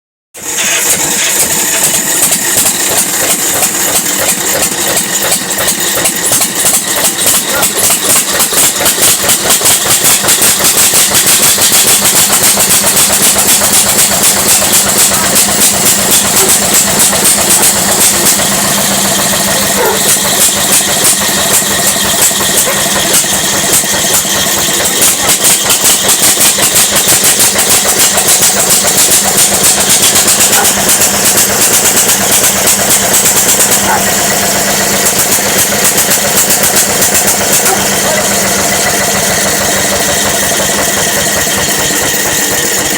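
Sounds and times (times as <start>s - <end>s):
tractor engine running: 0.4s - 42.9s.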